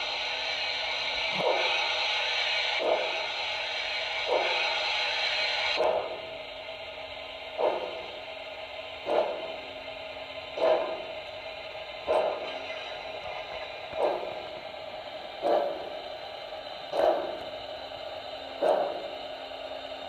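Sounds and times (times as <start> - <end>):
steam hiss: 0.0 - 20.0
steam locomotive chuffs: 0.0 - 20.0.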